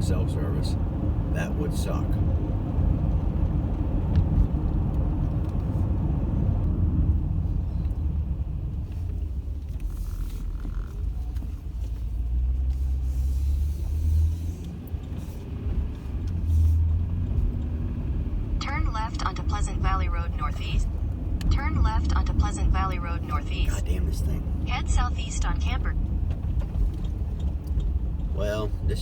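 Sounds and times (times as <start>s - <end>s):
road noise: 0.0s - 29.0s
vehicle engine rumble: 0.0s - 29.0s.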